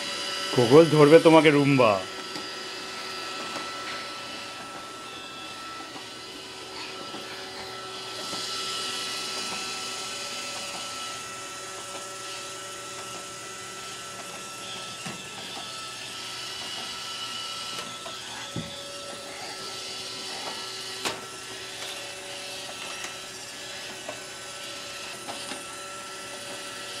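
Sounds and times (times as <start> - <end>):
robot vacuum whirring: 0.0 - 27.0.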